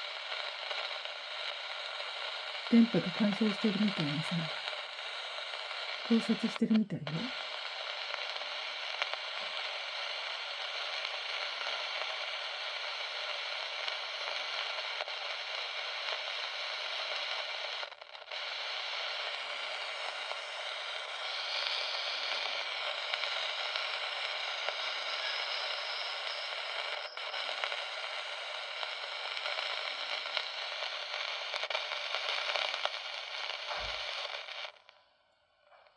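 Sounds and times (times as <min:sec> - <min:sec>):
crackling static hiss: 0:00.0 - 0:35.9.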